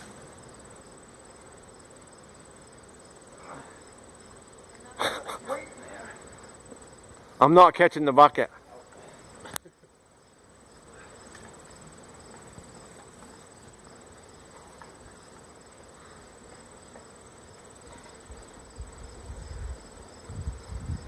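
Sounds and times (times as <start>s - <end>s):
faint buzzing hiss: 0.0s - 21.0s.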